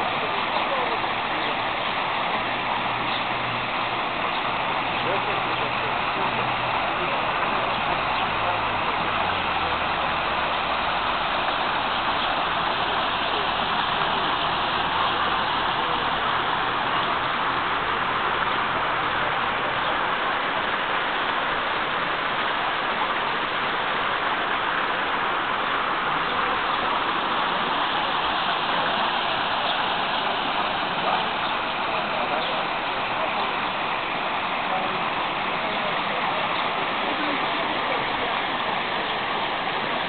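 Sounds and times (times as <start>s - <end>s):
fountain water splashing: 0.0s - 40.0s.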